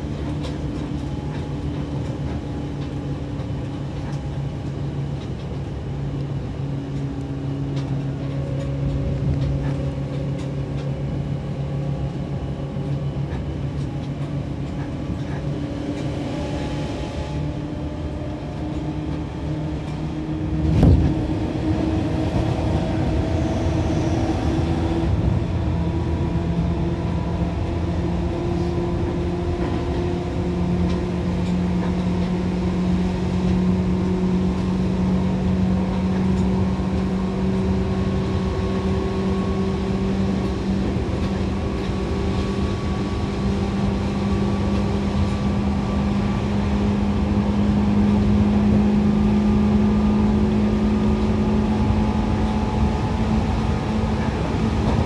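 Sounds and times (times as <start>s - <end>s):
train motor hum: 0.0s - 55.0s
wheel and rail rumble: 0.0s - 55.0s.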